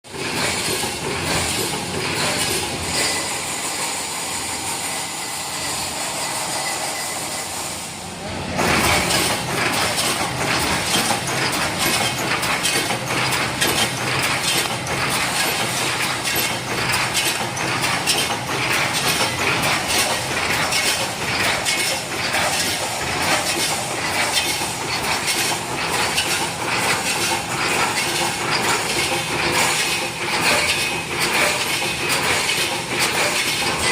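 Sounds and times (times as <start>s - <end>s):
welding machine metallic clanking: 0.1s - 7.8s, 8.5s - 33.9s.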